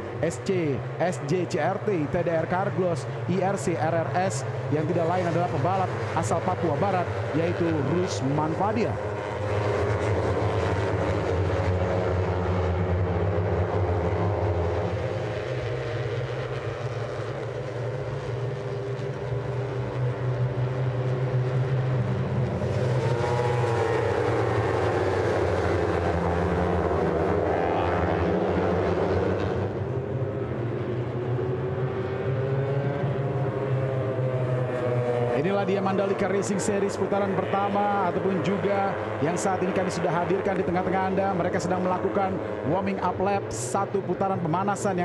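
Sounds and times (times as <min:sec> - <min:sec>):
motorcycle engines droning and revving: 0:00.0 - 0:45.0.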